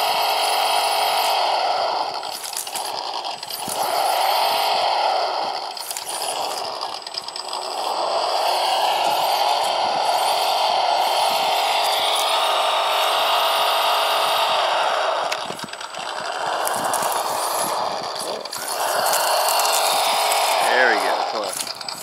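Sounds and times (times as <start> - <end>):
toy car electric motor running: 0.0 - 22.0.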